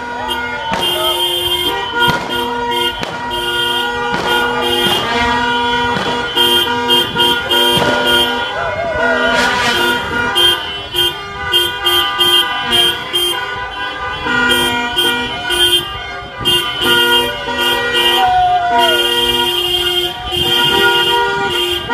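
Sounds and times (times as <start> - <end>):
car horns honking: 0.0 - 21.9
low rumble of slow traffic: 0.0 - 21.9.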